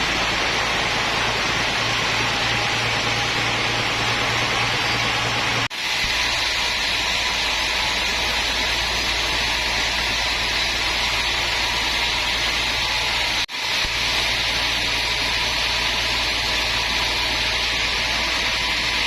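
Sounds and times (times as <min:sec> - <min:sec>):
woodworking machinery running: 0:00.0 - 0:19.0.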